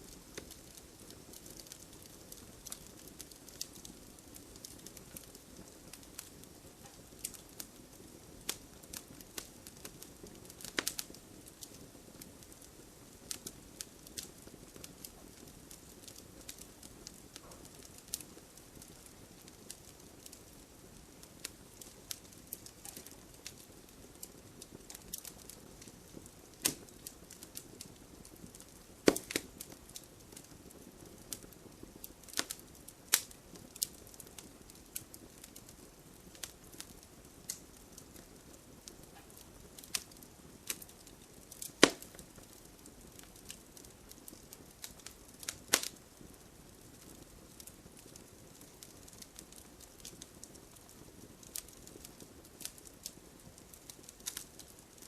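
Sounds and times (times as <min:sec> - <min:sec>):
loud fire pops: 0:00.0 - 0:53.0
fire crackling: 0:00.0 - 0:55.0
wood fire hissing: 0:00.0 - 0:55.0.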